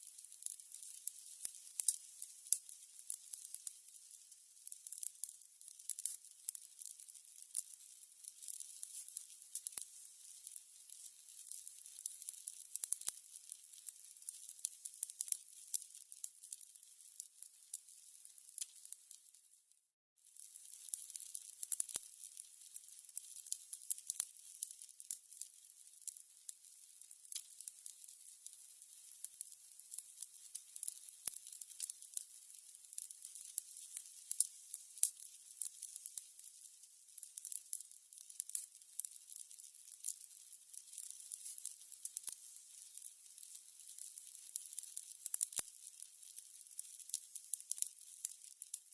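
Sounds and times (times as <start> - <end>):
candles crackling: 0.0 - 19.5, 20.3 - 48.9.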